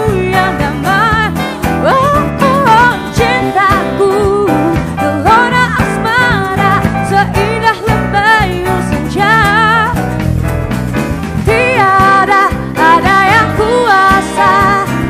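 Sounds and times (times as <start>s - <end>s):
slow love song melody: 0.0s - 15.0s
steady musical accompaniment: 0.0s - 15.0s.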